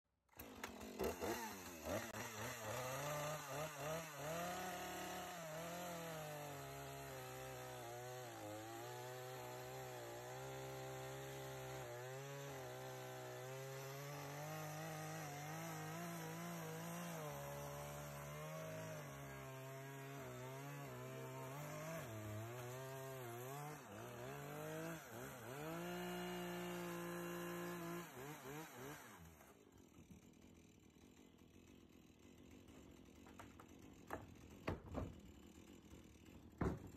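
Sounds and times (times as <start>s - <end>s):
chainsaw cutting: 0.3s - 36.9s.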